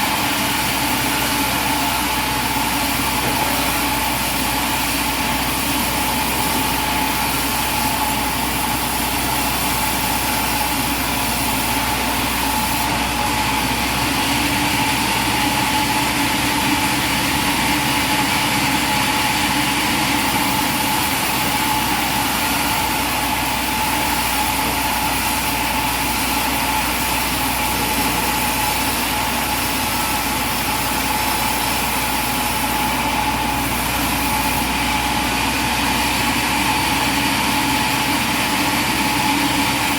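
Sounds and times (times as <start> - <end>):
machinery engine drone: 0.0 - 39.9
steady high whine: 0.0 - 39.9.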